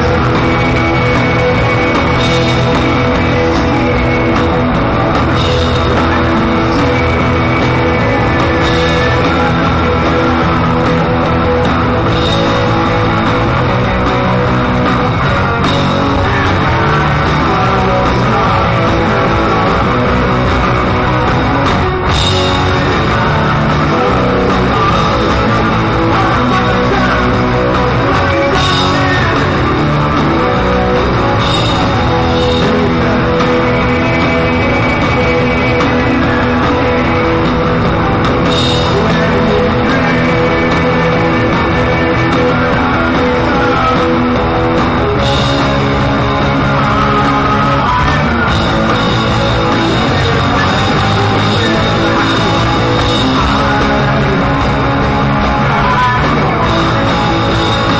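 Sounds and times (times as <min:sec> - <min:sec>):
drums and cymbals: 0:00.0 - 0:57.9
electric guitar: 0:00.0 - 0:57.9.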